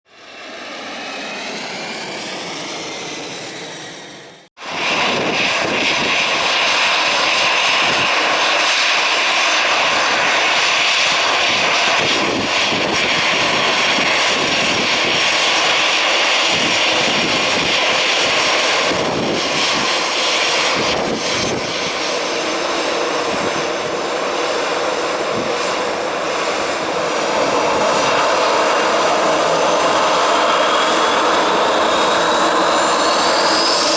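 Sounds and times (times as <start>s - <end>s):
jet airliner takeoff roar: 0.1s - 33.9s.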